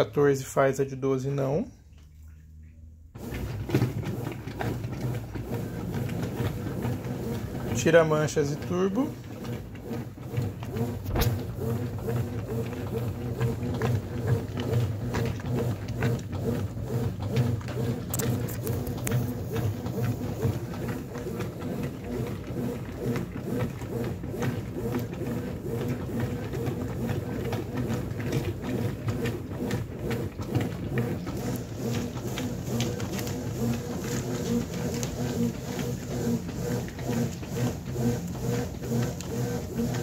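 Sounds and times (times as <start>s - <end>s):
washing machine motor hum: 0.0s - 40.0s.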